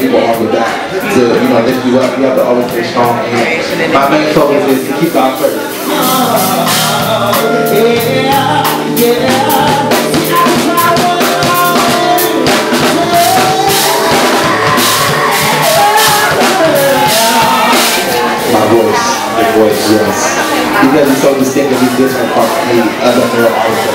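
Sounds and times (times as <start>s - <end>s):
drum kit: 0.0s - 23.9s
man singing: 0.0s - 23.9s
soul band playing: 0.0s - 23.9s.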